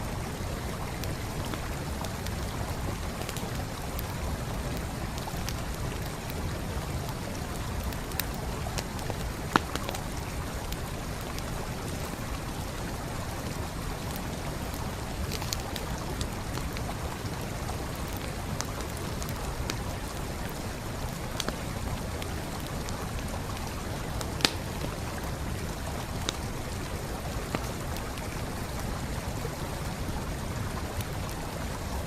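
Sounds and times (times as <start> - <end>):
flowing stream: 0.0 - 32.0
campfire crackling and popping: 0.1 - 32.0.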